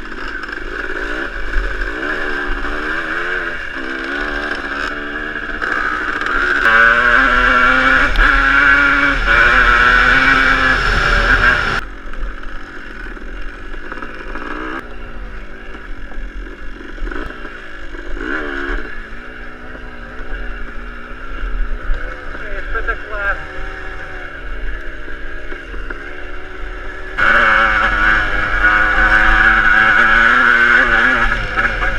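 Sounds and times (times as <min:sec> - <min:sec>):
motocross bike engine revving: 0:00.0 - 0:31.9.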